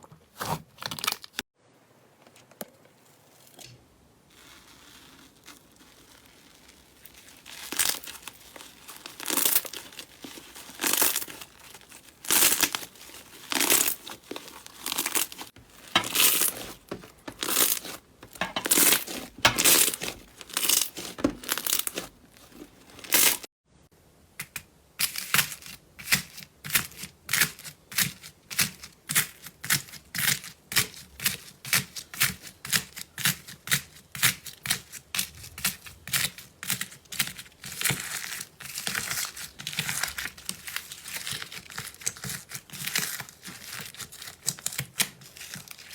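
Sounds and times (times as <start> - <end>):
slime crackling and crinkling: 2.9 - 23.5, 24.5 - 45.9.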